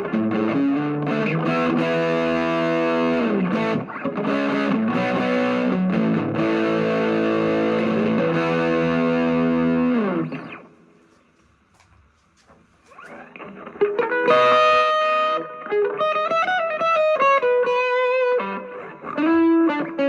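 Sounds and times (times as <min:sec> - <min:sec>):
distorted electric guitar chords: 0:00.0 - 0:10.7, 0:13.2 - 0:20.0.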